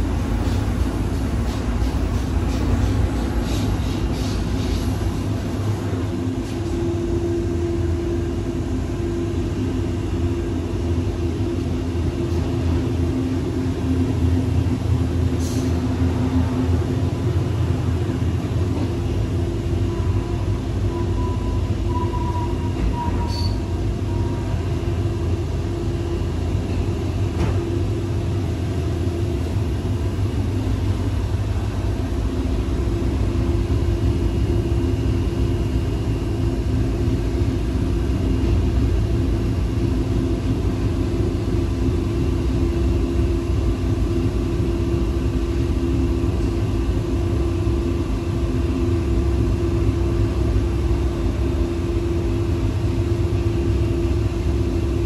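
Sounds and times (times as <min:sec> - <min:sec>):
train hum: 0:00.0 - 0:55.0
train rumbling: 0:00.0 - 0:55.0.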